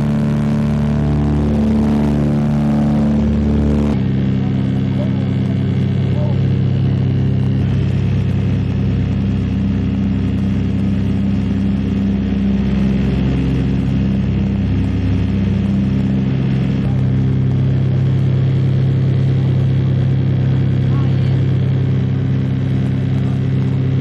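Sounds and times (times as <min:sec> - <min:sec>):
aircraft radial engines droning: 0:00.0 - 0:24.0.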